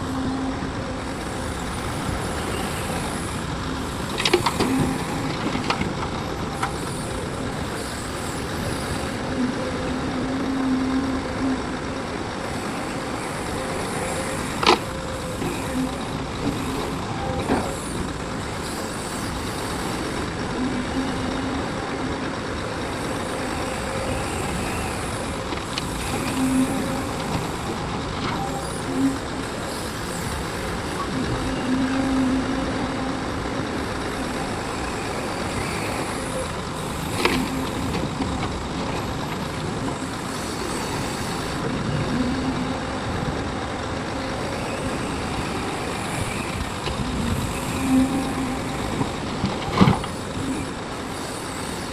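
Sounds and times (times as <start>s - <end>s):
heavy diesel machinery running: 0.0s - 51.9s.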